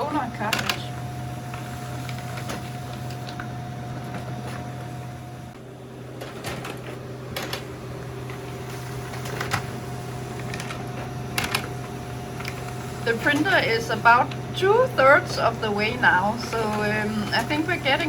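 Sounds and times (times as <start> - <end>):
laser printer humming: 0.0 - 18.0.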